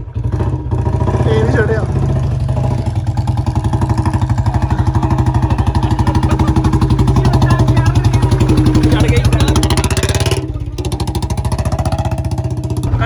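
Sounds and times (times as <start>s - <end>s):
motorcycle engine thumping: 0.0s - 13.0s.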